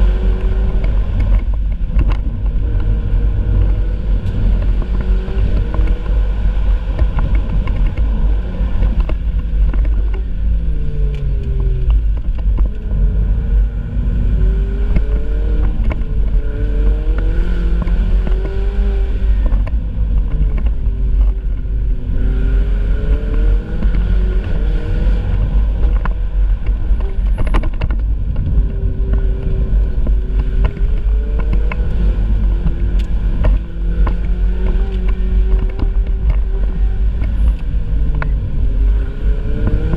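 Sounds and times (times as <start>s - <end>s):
low rumble: 0.0s - 39.9s
sports car engine accelerating: 0.0s - 39.9s.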